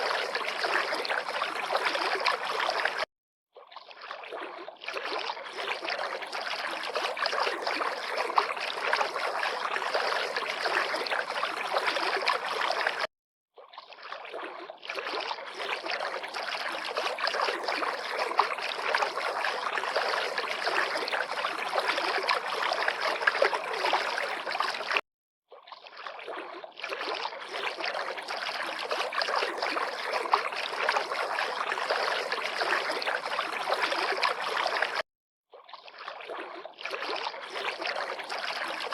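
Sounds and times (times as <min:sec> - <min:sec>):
river water lapping and trickling: 0:00.0 - 0:38.9.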